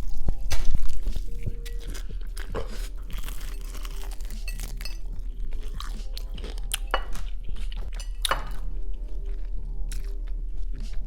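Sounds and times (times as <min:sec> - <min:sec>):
crunchy chewing: 0:00.0 - 0:11.0
soft background music: 0:00.0 - 0:11.0.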